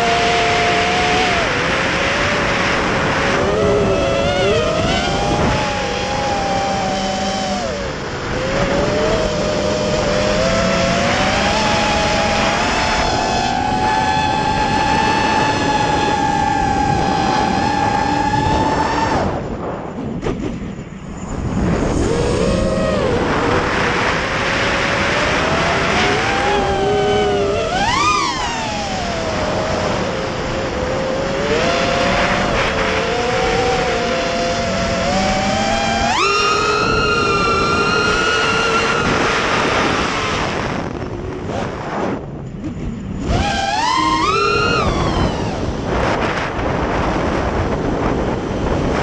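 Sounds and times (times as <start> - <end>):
quadcopter motors whining: 0.0 - 49.0
wind rushing: 0.0 - 49.0.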